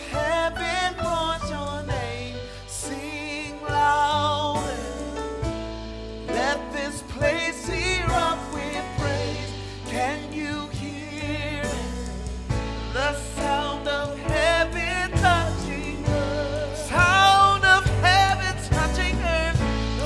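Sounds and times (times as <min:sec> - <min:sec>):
person singing with vibrato: 0:00.0 - 0:05.6, 0:06.2 - 0:20.0
band with steady bass line: 0:00.0 - 0:20.0.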